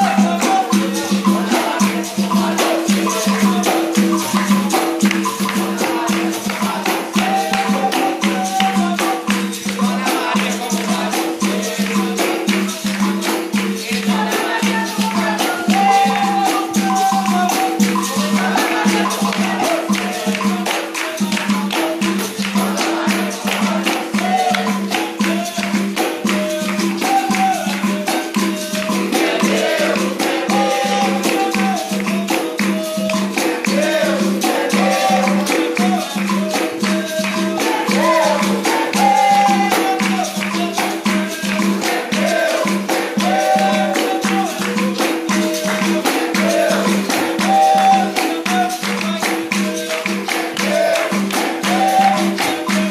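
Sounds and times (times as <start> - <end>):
shaker rattle: 0.0 - 52.9
tambourine beating rhythm: 0.0 - 52.9
voices singing: 0.0 - 52.9.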